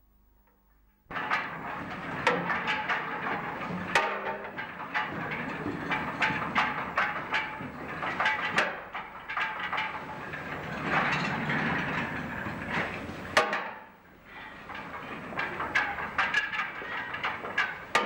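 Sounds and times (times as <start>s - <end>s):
clattering and clacking: 1.1s - 18.0s
kiln car rolling on rails: 1.1s - 18.0s.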